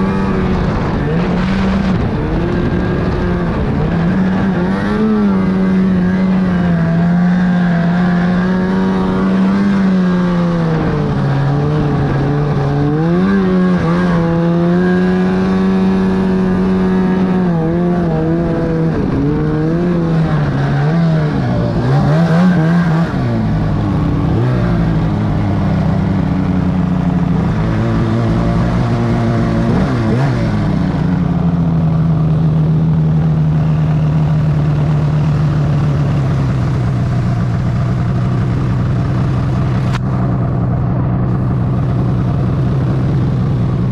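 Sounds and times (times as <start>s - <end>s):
snowmobile engine revving: 0.0s - 40.1s.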